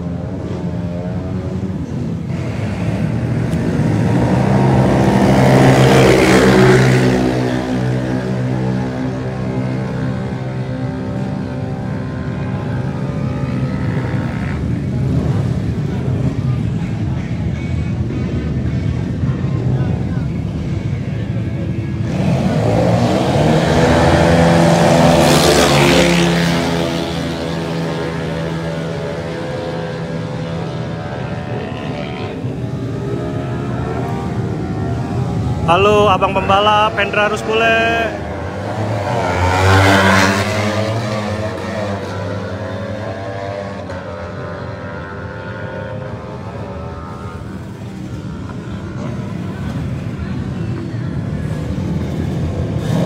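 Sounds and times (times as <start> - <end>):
motorcycles accelerating past: 0.0 - 16.7, 21.4 - 53.0.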